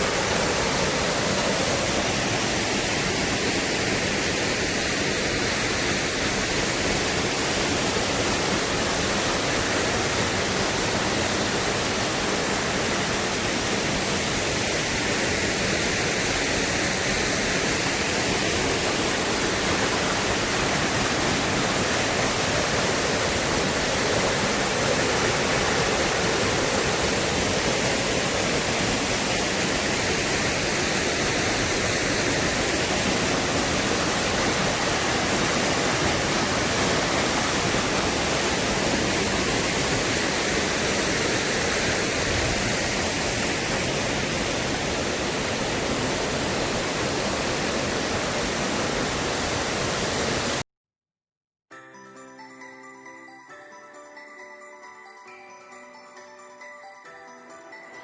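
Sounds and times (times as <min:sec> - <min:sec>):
waterfall roaring: 0:00.0 - 0:50.6.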